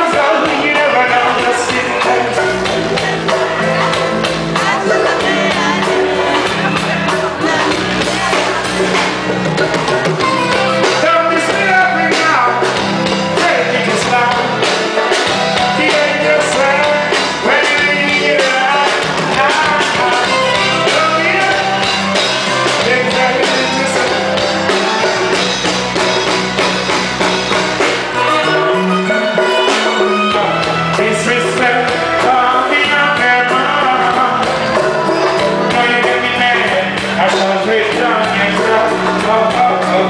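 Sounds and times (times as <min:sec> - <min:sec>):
man singing into a microphone: 0:00.0 - 0:09.2, 0:10.4 - 0:25.4, 0:29.0 - 0:40.0
reggae band playing: 0:00.0 - 0:40.0.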